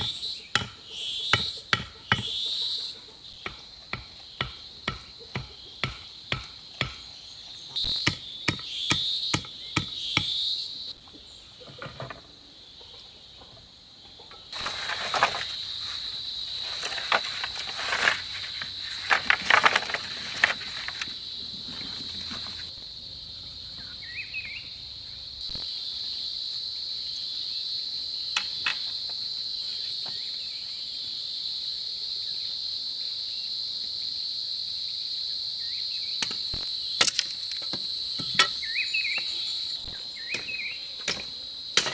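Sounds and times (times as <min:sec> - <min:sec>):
insects chirping chorus: 0:00.0 - 0:41.9.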